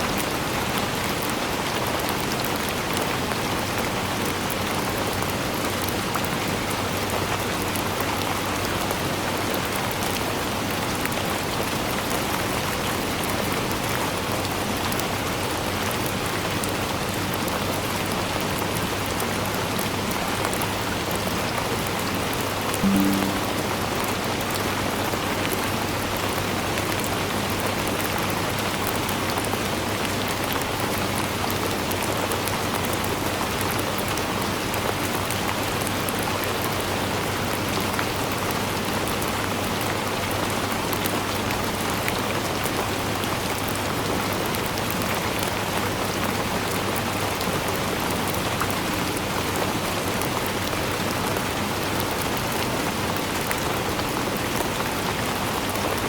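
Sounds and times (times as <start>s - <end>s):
steady rainfall: 0.0s - 24.6s, 26.2s - 56.0s.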